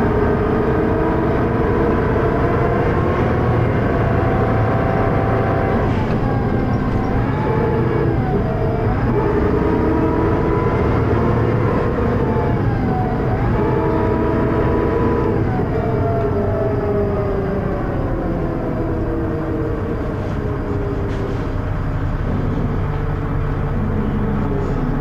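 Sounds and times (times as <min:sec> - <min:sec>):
bus diesel engine with gearbox whine: 0:00.0 - 0:25.0.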